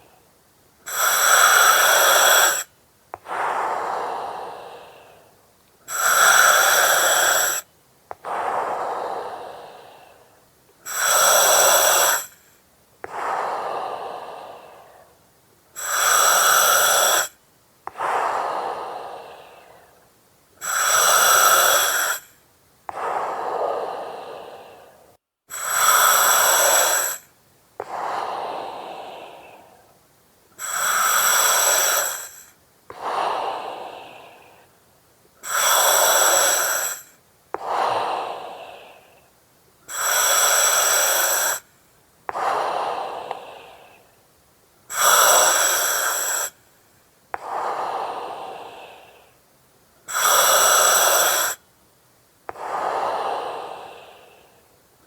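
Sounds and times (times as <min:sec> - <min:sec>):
breathing through oxygen mask: 0:00.9 - 0:15.2, 0:15.8 - 0:20.0, 0:20.6 - 0:29.9, 0:30.6 - 0:34.7, 0:35.4 - 0:39.3, 0:39.9 - 0:41.7, 0:42.3 - 0:44.1, 0:44.9 - 0:46.6, 0:47.4 - 0:49.4, 0:50.1 - 0:51.6, 0:52.5 - 0:54.7.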